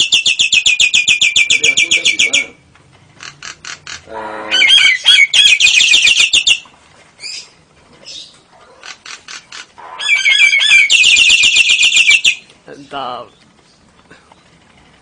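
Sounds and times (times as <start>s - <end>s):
bird calls and clicks: 0.0s - 4.1s, 4.9s - 15.0s.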